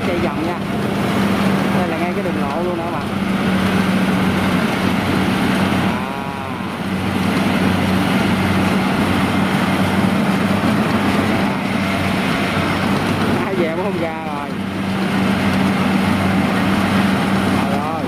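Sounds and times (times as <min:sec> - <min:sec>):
combine harvester diesel engine running: 0:00.0 - 0:18.0.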